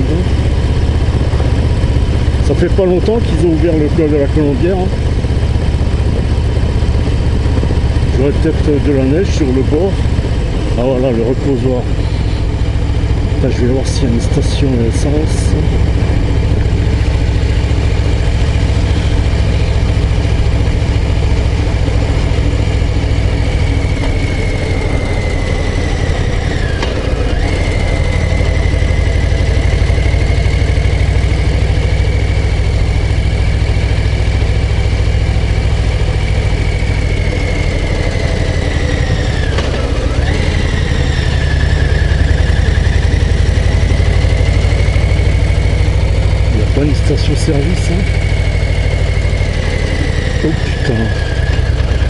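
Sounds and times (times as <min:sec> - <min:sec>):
motorcycle engine and exhaust: 0:00.0 - 0:52.0.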